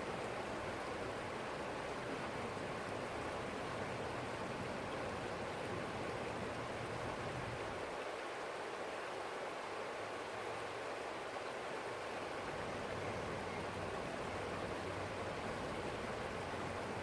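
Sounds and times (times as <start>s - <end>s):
stream flowing: 0.0s - 17.0s.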